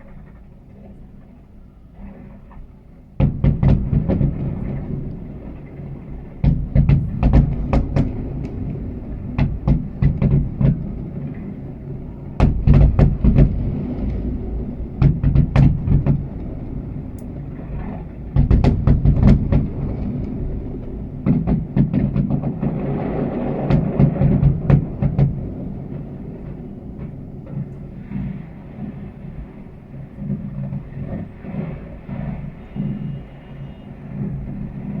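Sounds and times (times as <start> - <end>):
low rolling rumble: 0.0 - 33.3
fireworks bangs: 2.0 - 35.0.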